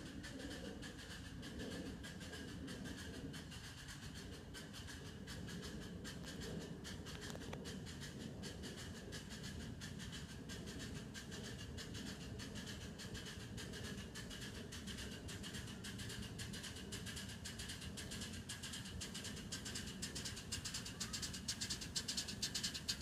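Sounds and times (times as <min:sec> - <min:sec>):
miniature train running on track: 0:00.0 - 0:23.0.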